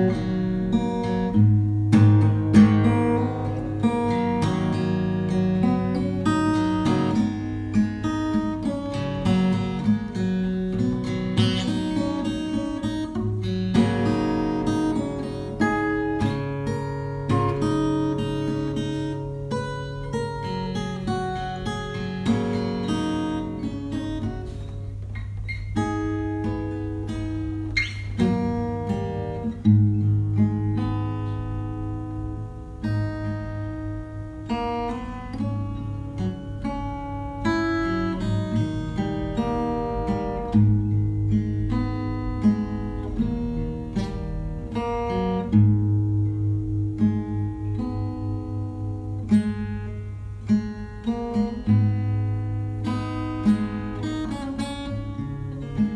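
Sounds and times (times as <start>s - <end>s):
acoustic guitar: 0.0s - 55.9s.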